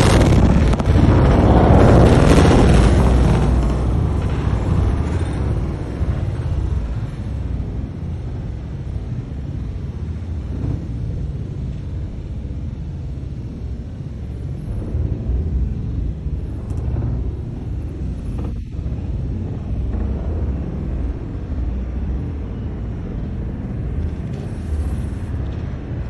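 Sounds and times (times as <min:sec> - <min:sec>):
explosion tail: 0:00.0 - 0:26.0
steady low rumble: 0:00.0 - 0:26.0.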